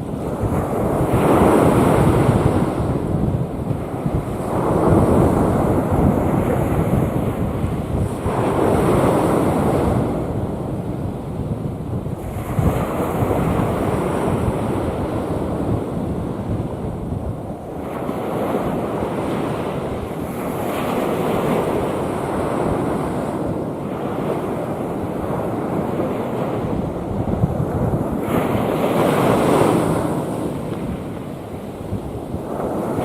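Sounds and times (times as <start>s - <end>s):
waves breaking: 0.0s - 10.9s, 12.1s - 33.0s
wind buffeting microphone: 0.0s - 33.0s.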